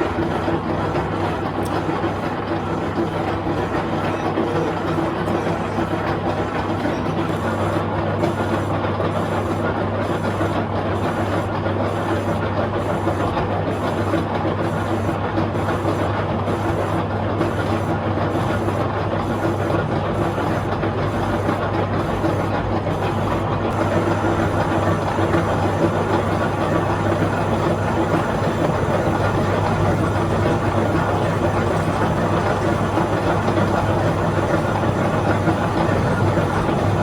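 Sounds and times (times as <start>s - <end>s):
shop machinery running: 0.0s - 37.0s.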